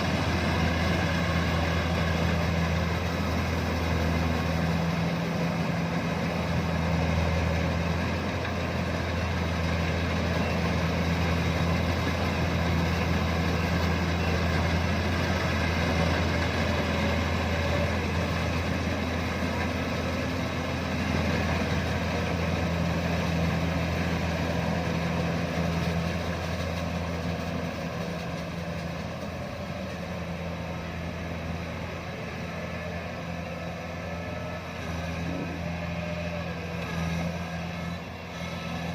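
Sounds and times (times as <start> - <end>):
harvester engine hum: 0.0 - 38.9.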